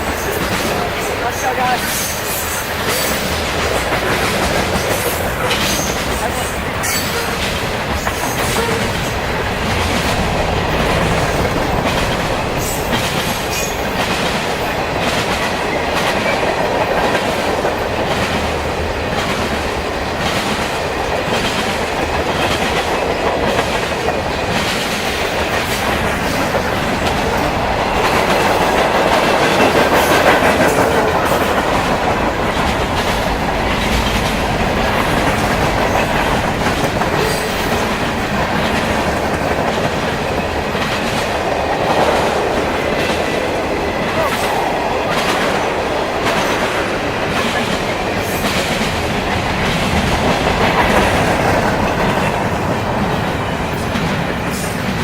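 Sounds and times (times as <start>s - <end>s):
train cars rumbling past: 0.0s - 55.0s
wheels clicking over rail joints: 0.0s - 55.0s.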